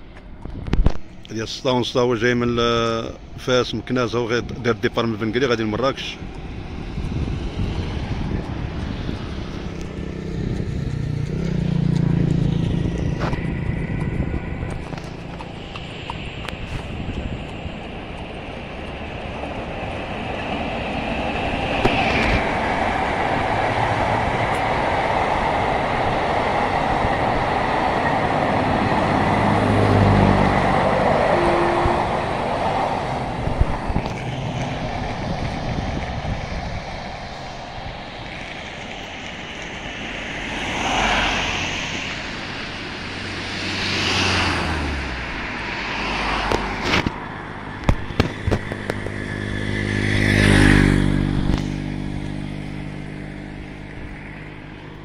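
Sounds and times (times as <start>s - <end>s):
cars passing on road: 0.0s - 55.0s
passenger train passing: 0.0s - 55.0s.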